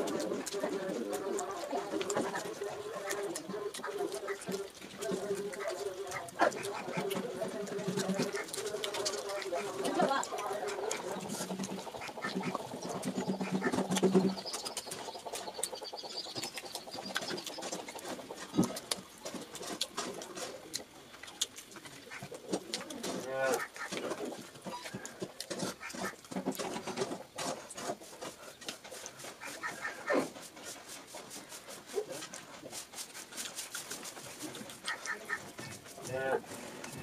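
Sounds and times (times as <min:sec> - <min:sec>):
fingers picking at food: 0:00.0 - 0:37.0
wet chewing and lip smacks: 0:00.0 - 0:37.0.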